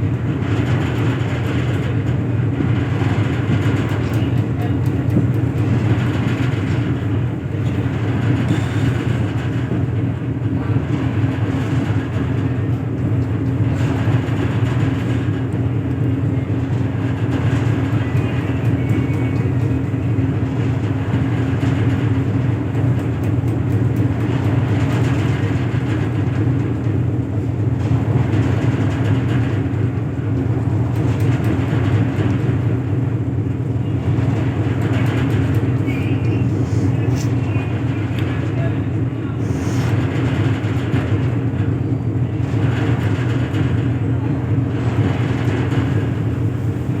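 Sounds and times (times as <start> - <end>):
engine running: 0.1 - 47.0.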